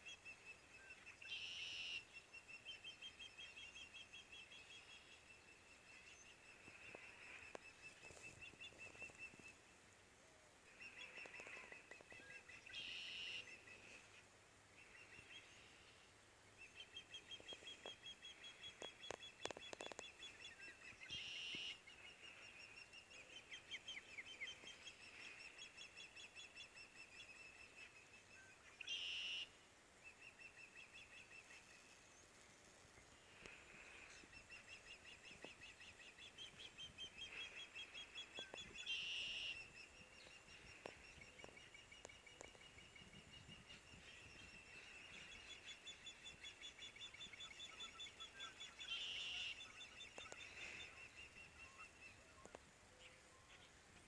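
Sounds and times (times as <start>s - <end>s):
faint bird chirps: 0.0s - 9.9s, 10.6s - 54.0s.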